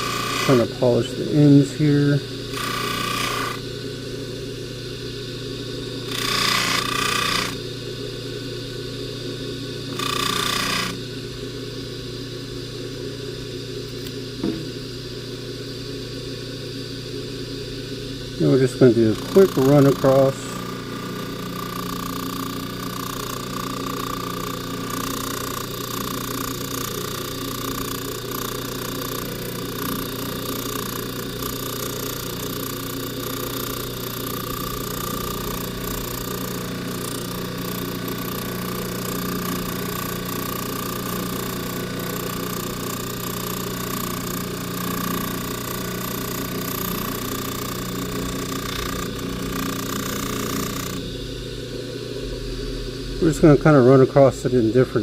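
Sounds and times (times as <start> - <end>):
polishing buffer motor humming: 0.0 - 55.0.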